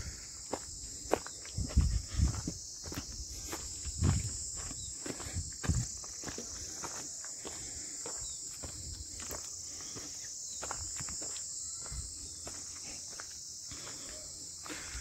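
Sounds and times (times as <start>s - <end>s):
footsteps on dirt trail: 0.0s - 15.0s
high-pitched insect chorus: 0.0s - 15.0s.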